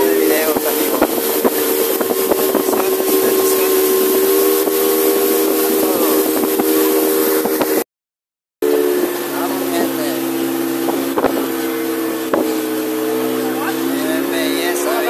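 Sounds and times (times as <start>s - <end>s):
motorboat engine running: 0.0s - 7.8s, 8.6s - 15.0s.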